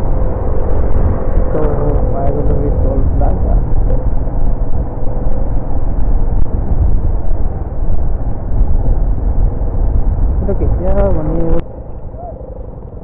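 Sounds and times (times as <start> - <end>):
motorcycle running: 0.0 - 13.0
wind buffeting microphone: 0.0 - 13.0.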